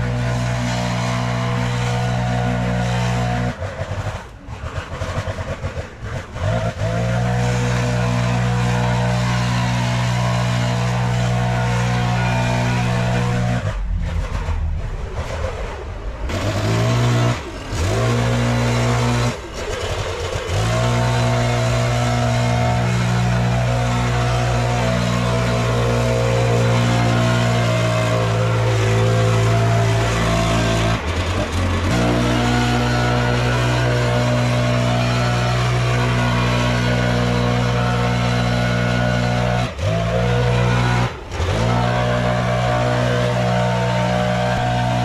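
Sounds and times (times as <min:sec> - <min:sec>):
leaf blower engine revving: 0:00.0 - 0:14.7, 0:16.3 - 0:45.0.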